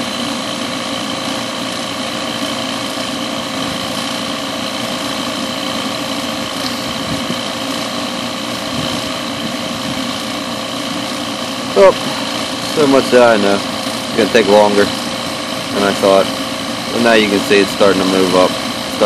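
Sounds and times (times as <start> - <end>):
compressor machine humming: 0.0 - 19.0.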